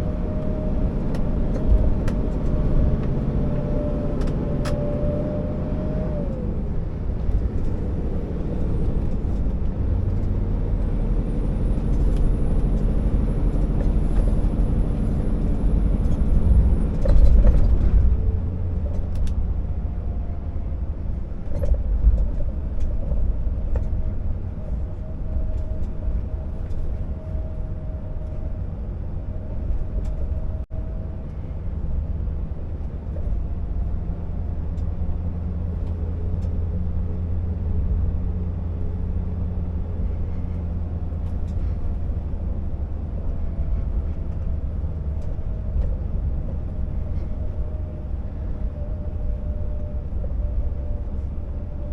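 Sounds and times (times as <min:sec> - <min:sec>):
road noise: 0:00.0 - 0:51.9
truck diesel engine droning: 0:00.0 - 0:51.9.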